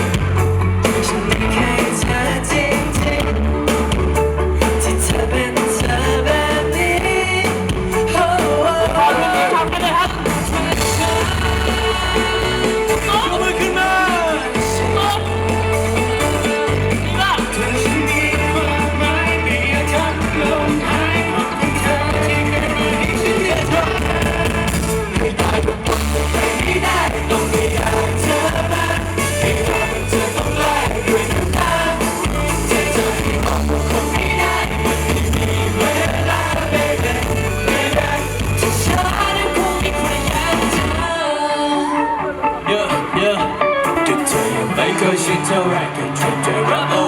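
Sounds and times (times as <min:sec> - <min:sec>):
bass beat: 0:00.0 - 0:41.1
person singing: 0:00.0 - 0:47.0
pop song over loudspeakers: 0:00.0 - 0:47.0.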